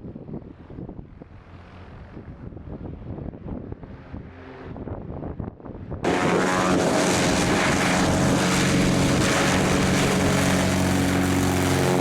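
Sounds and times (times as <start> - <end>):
propeller aircraft engine droning: 0.3 - 5.0, 5.6 - 12.0.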